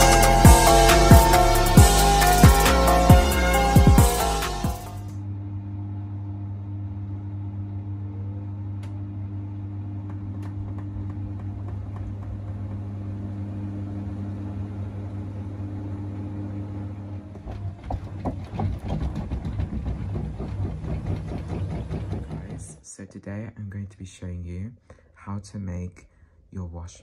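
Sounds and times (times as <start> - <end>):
low machine hum: 0.0 - 24.4.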